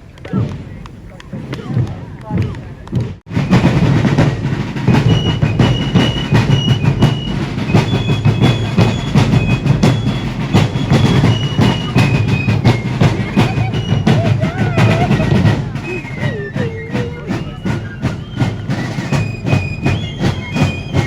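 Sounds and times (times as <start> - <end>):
rapid drumming: 0.2 - 21.0
shrill fife melody: 3.4 - 21.0.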